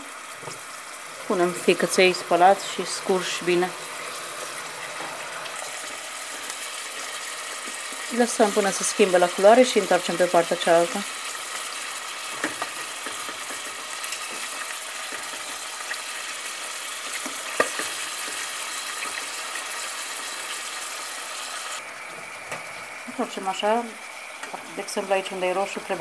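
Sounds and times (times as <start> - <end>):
livers sizzling in oil: 0.0 - 26.0.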